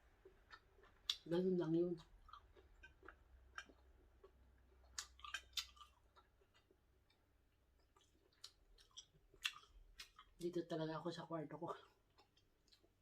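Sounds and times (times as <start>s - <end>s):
person chewing: 0.0s - 10.5s, 11.8s - 13.0s.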